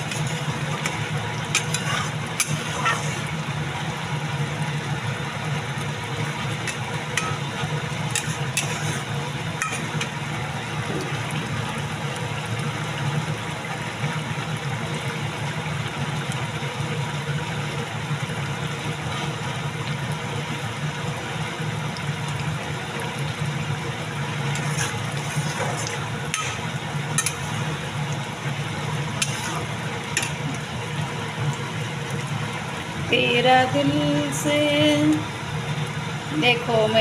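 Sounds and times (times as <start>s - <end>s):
curry sizzling and bubbling: 0.0s - 37.0s.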